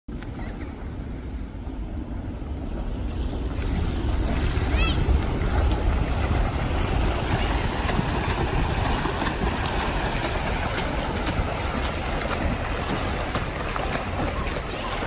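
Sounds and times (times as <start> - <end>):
low rumble: 0.2 - 14.6
swimmers splashing water: 0.2 - 15.0.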